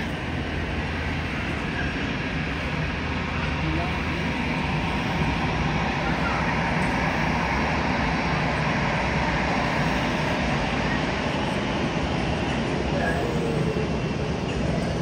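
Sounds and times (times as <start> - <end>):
airliner engine noise: 0.0 - 15.0.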